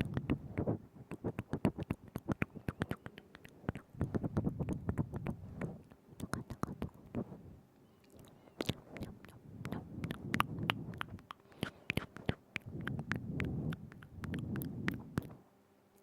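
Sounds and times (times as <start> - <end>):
wet tongue and lip clicks: 0.0 - 7.3, 8.0 - 15.4
breathy low mouth smacking: 0.0 - 15.4.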